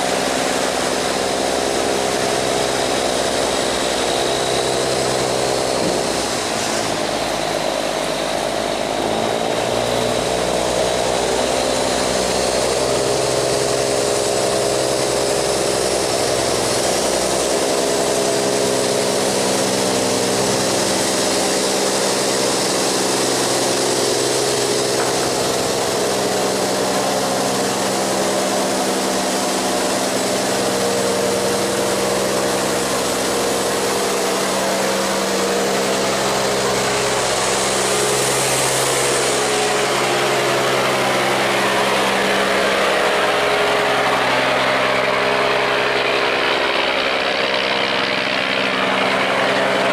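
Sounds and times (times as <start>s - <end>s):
barge diesel engine running: 0.0s - 49.9s
water churning against hull: 0.0s - 49.9s.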